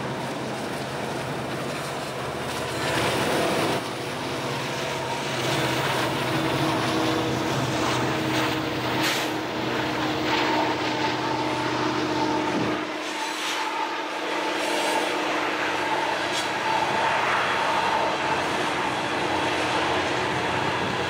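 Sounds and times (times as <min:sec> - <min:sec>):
diesel locomotives running past: 0:00.0 - 0:21.0
drone propellers whining: 0:00.0 - 0:21.0.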